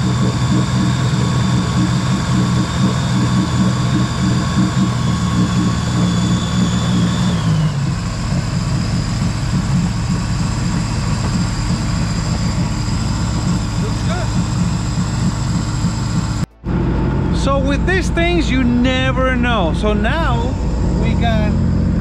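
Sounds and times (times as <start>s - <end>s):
watercraft engine idling: 0.0s - 22.0s.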